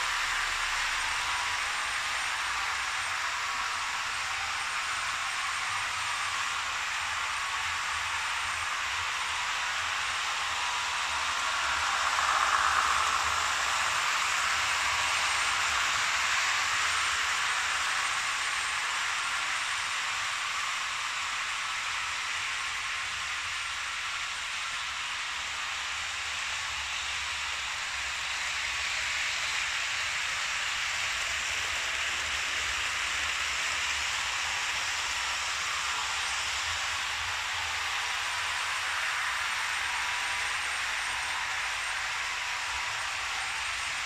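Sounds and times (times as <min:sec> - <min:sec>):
model trains running on track: 0:00.0 - 0:44.0.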